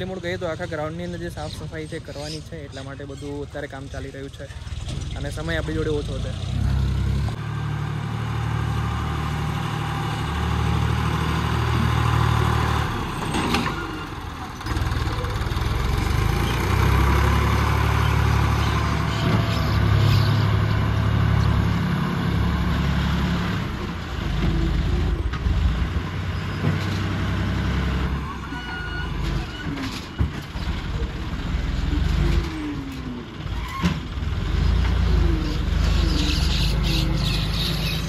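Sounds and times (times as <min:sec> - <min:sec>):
tractor diesel engine running: 0:00.0 - 0:28.5, 0:29.1 - 0:38.0.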